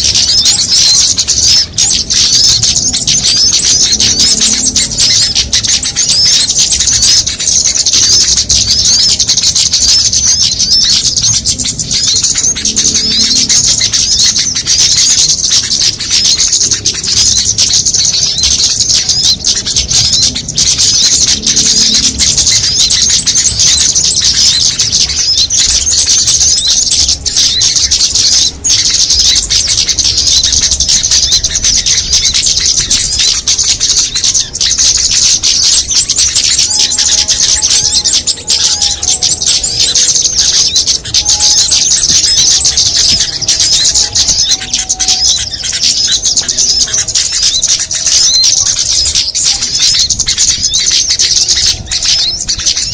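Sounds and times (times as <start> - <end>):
lower warbling bird call: 0.0 - 52.9
small birds chirping and twittering: 0.0 - 52.9.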